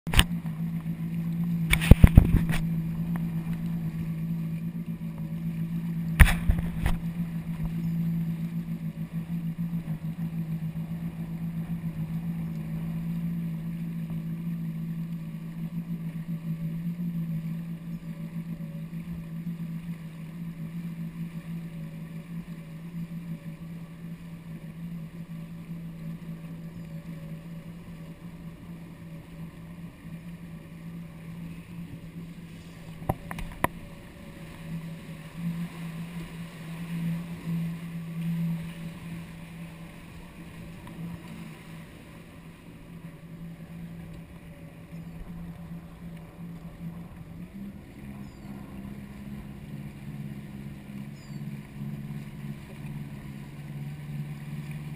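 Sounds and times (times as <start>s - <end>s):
watercraft engine running: 0.0s - 54.9s.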